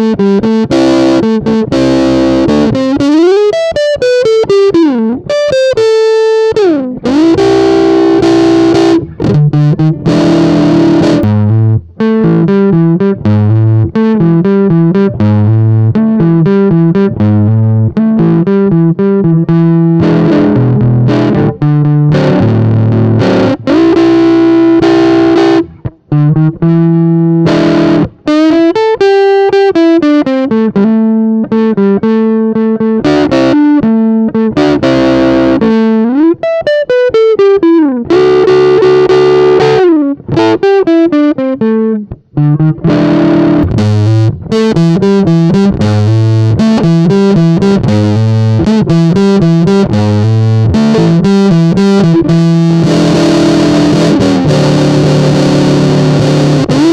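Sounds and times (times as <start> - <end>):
fuzz electric guitar: 0.0 - 56.9.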